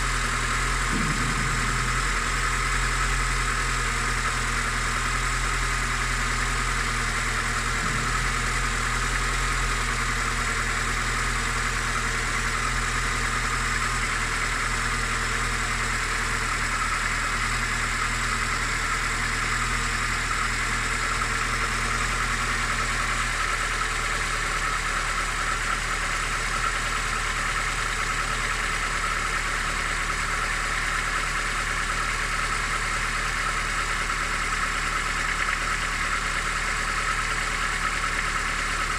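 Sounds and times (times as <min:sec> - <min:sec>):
engine idling with knock: 0:00.0 - 0:38.9.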